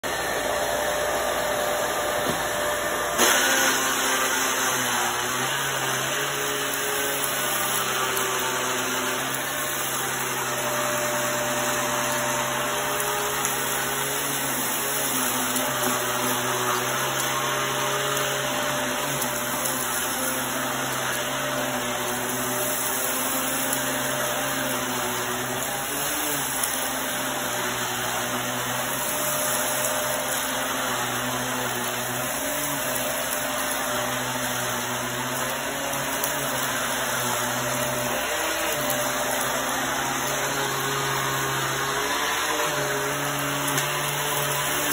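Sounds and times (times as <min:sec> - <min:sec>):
vacuum cleaner on rug: 0:00.0 - 0:44.9.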